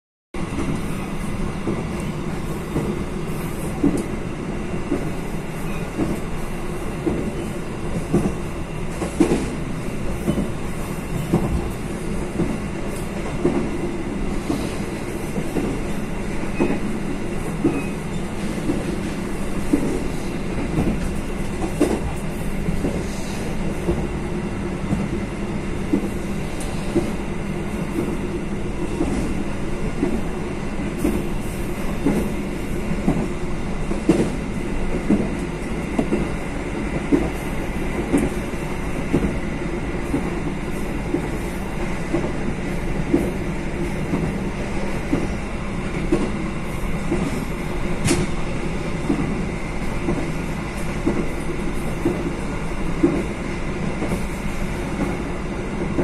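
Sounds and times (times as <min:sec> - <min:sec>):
train knocks and clacks: 0:00.4 - 0:56.0
train wheels rumbling on rails: 0:00.4 - 0:56.0.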